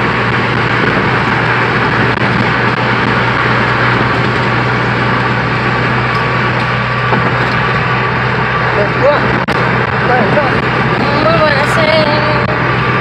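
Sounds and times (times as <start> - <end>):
road and tyre noise inside car: 0.0 - 13.0.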